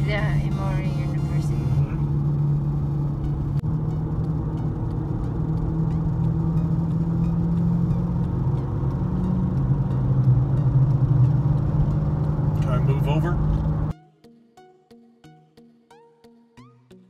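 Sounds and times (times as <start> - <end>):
car engine and tyres droning: 0.0 - 13.9.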